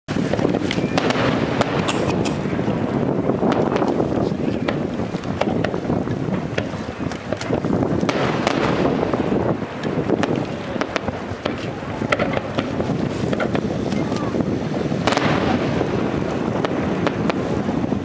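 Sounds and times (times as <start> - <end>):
fireworks bangs and crackles: 0.1 - 18.0.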